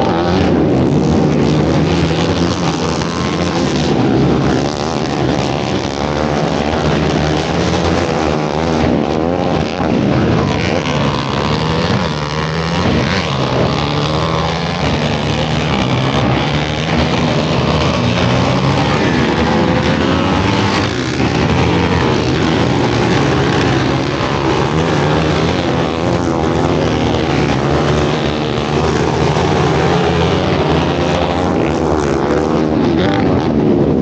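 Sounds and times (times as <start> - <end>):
quad engines revving: 0.0 - 34.0.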